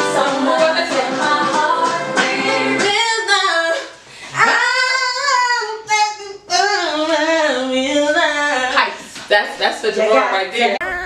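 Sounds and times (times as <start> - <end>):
woman singing unaccompanied: 0.0 - 9.0, 9.8 - 11.0.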